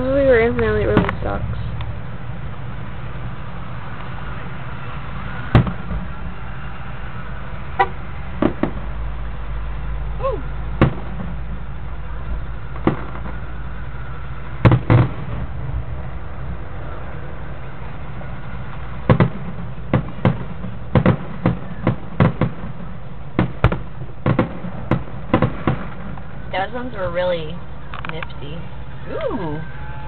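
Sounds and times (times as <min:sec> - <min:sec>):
low rumble: 0:00.0 - 0:30.0
fireworks bangs: 0:02.6 - 0:09.5, 0:10.6 - 0:30.0.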